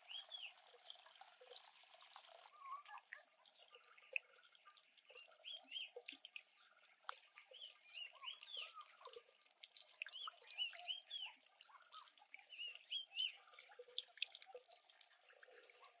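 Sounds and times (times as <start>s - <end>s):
water trickling into pond: 0.0s - 16.0s.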